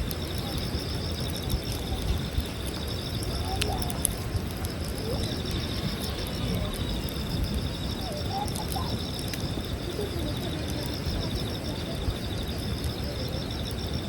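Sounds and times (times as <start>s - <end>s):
campfire crackling: 0.0s - 14.0s
insects trilling: 0.0s - 14.0s.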